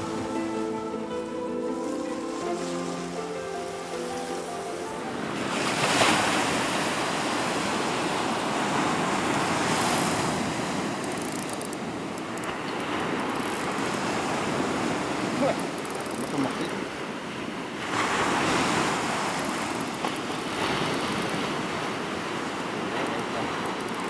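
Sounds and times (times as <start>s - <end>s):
waves breaking on beach: 0.0s - 24.0s
wind on microphone: 3.8s - 24.0s.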